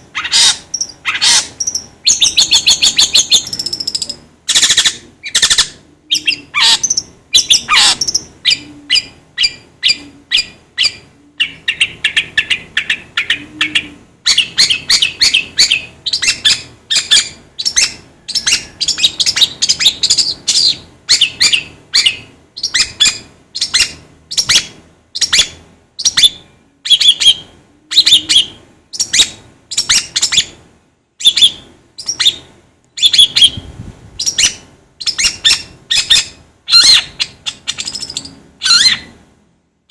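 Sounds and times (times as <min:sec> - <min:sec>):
buzzy bird trill: 0:00.1 - 0:30.6, 0:31.2 - 0:39.2.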